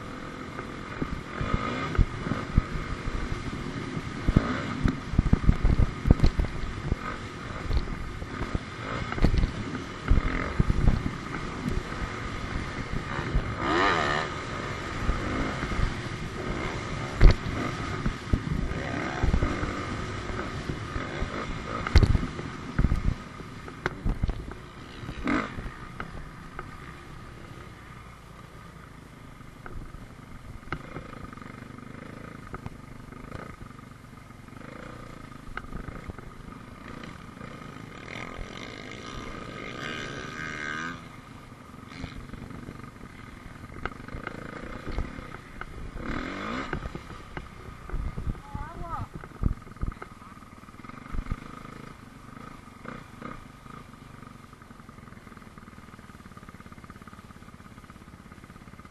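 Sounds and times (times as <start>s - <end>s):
dirt bike engine revving: 0.0s - 27.8s, 30.6s - 33.8s, 34.4s - 58.9s.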